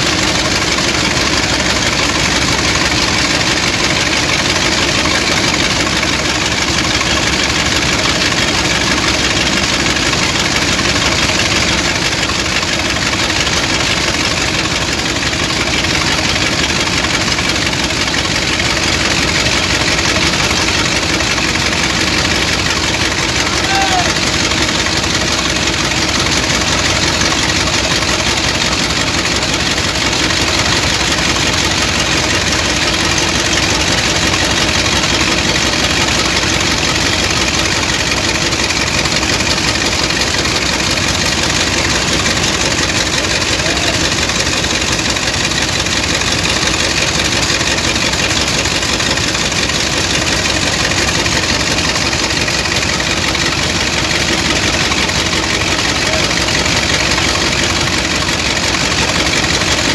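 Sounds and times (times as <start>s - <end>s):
pump engine running: 0.0s - 59.9s.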